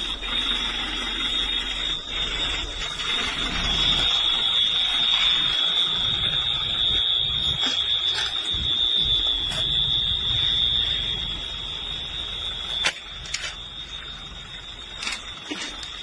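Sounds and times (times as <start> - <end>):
high-pitched alarm tone: 0.0 - 16.0.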